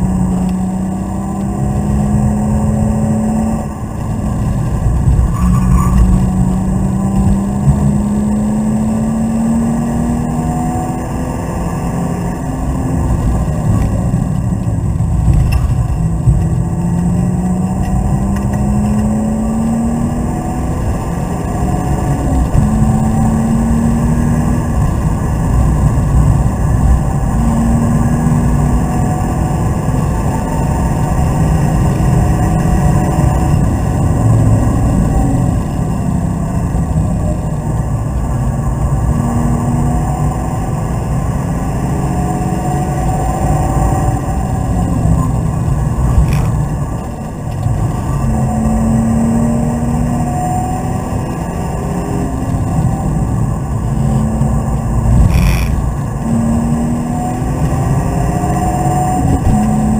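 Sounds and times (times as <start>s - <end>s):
car engine accelerating hard: 0.0s - 59.9s
road and wind noise: 0.0s - 59.9s.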